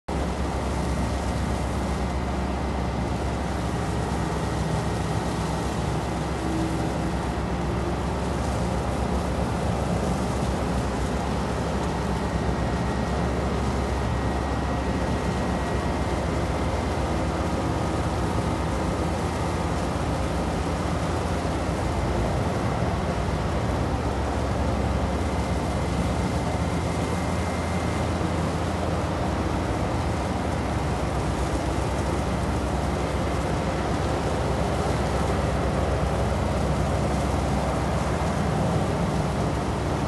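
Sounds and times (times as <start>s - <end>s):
boat engine drone: 0.1s - 40.0s
water noise: 0.1s - 40.0s.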